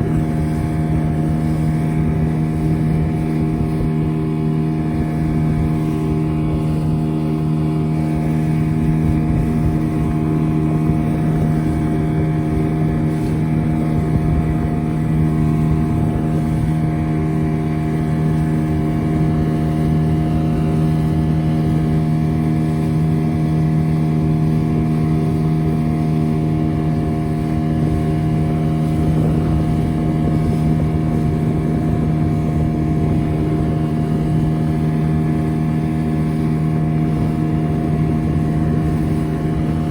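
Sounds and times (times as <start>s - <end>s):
motorboat engine drone: 0.0s - 39.9s
wind on microphone: 0.0s - 39.9s.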